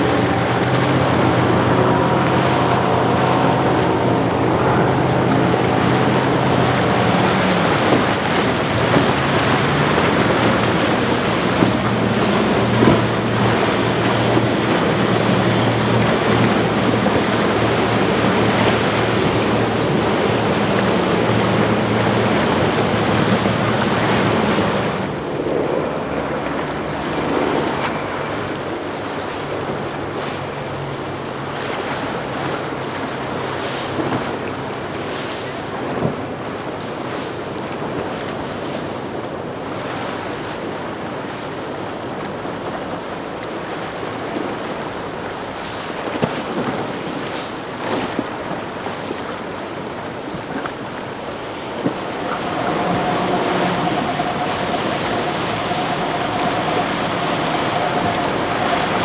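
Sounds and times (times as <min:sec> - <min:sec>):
boat engines running: 0:00.0 - 0:59.0
water rushing: 0:00.0 - 0:59.0
wind buffeting microphone: 0:00.0 - 0:59.0.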